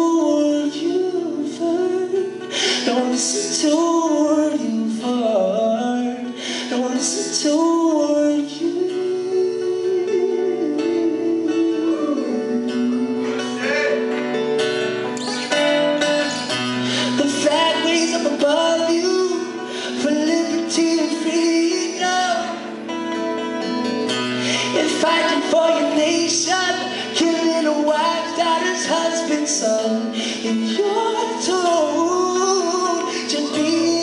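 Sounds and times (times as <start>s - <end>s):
man singing: 0.0s - 14.3s, 16.8s - 23.0s, 24.4s - 34.0s
acoustic guitars: 0.0s - 34.0s.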